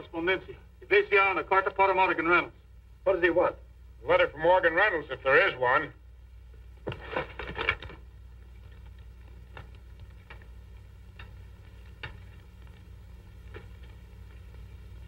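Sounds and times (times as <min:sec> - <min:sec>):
film soundtrack hum: 0:00.0 - 0:15.0.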